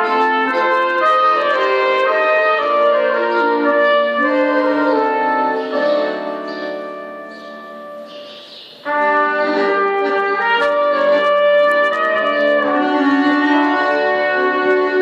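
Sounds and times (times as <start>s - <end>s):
trumpet melody: 0.0s - 8.2s, 8.8s - 15.0s
klezmer band playing: 0.0s - 15.0s.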